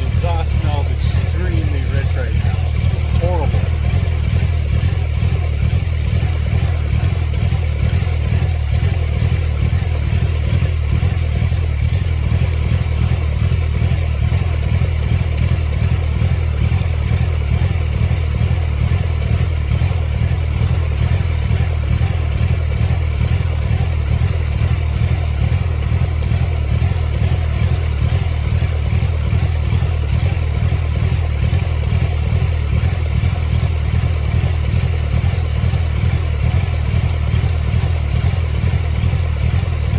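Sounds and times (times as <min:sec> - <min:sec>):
car engine running steadily: 0:00.0 - 0:39.9.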